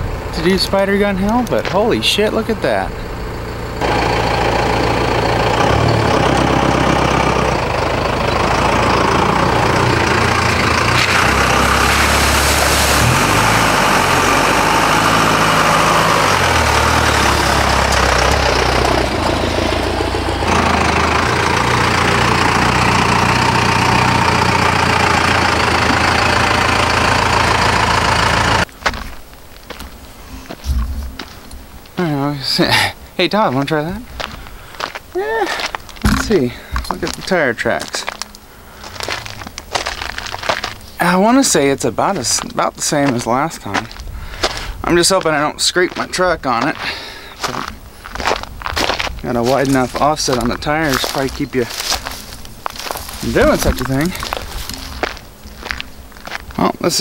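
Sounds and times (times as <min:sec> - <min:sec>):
diesel truck engine revving: 0:00.0 - 0:28.7, 0:34.9 - 0:57.0
tires splashing water: 0:00.0 - 0:30.0, 0:33.4 - 0:57.0.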